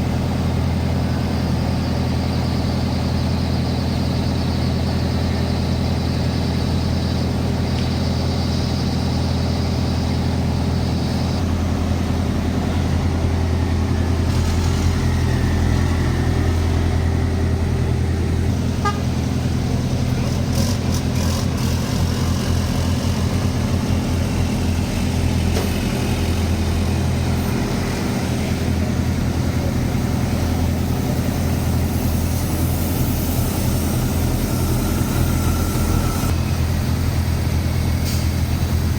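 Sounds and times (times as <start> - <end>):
truck engines droning: 0.0 - 38.9.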